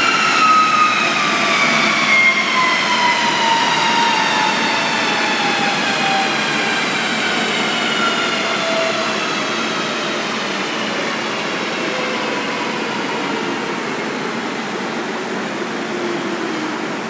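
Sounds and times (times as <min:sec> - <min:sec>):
engine whine winding down: 0:00.0 - 0:14.8.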